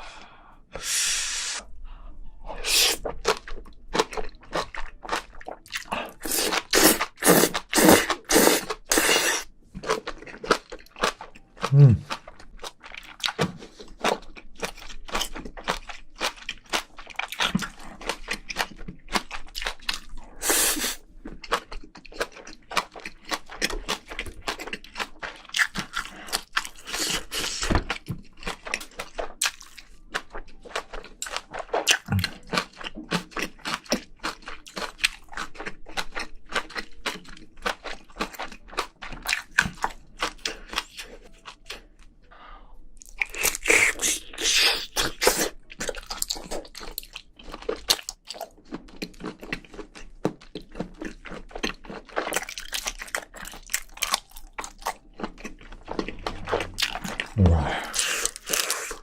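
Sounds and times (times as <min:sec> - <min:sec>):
chewing and crunching food: 0:02.6 - 0:59.0.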